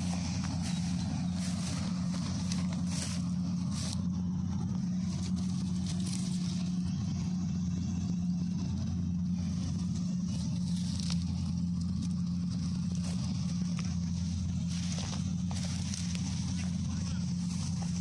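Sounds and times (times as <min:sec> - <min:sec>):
combine harvester diesel engine running: 0:00.0 - 0:18.0.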